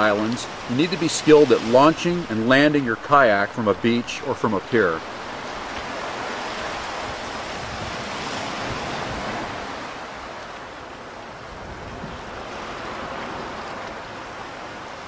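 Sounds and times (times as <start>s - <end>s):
ocean surf washing on shore: 0.0s - 15.0s.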